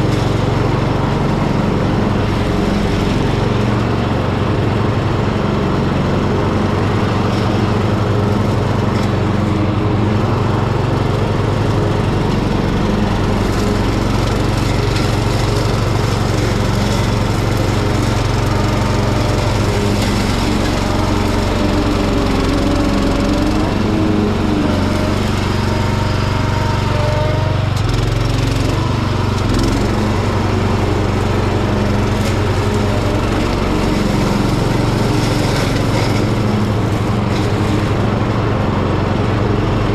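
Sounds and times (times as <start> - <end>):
garden tractor engine running: 0.0 - 39.9
mower cutting tall grass: 0.0 - 39.9.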